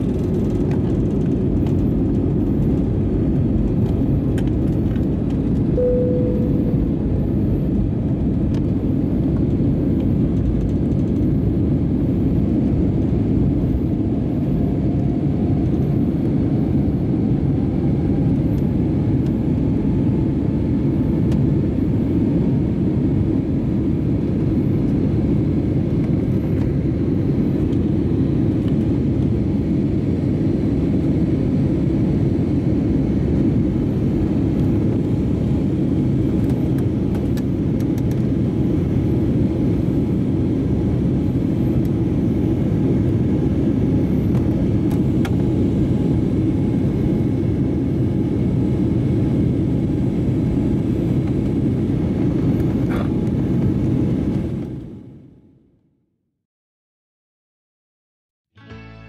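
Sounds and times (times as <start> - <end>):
airplane cabin engine drone: 0.0 - 55.8.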